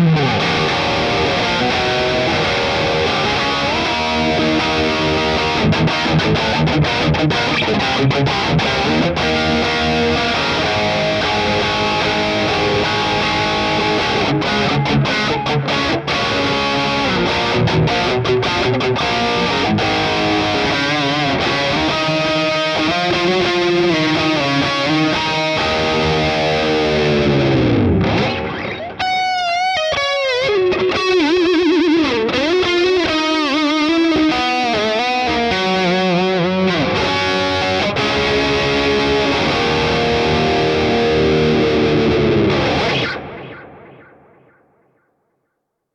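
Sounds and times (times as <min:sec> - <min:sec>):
distorted electric guitar: 0:00.0 - 0:45.0.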